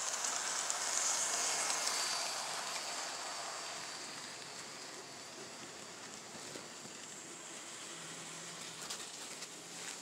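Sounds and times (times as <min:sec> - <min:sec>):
faint clicks of train: 0:00.0 - 0:10.0
model train running on track: 0:00.0 - 0:10.0.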